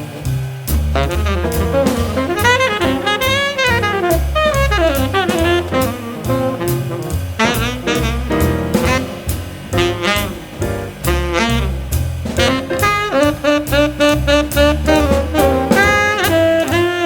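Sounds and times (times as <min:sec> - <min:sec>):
bass line: 0:00.0 - 0:17.0
drums: 0:00.0 - 0:17.0
saxophone melody: 0:01.0 - 0:17.0.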